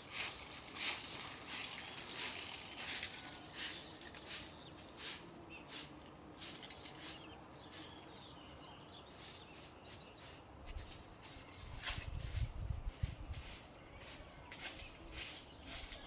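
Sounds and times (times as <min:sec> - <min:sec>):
high hissy chirp: 0:00.0 - 0:16.0.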